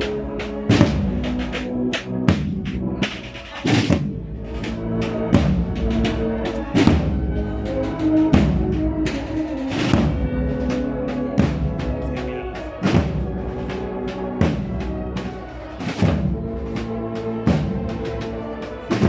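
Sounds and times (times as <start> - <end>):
band playing slow march: 0.0 - 19.0.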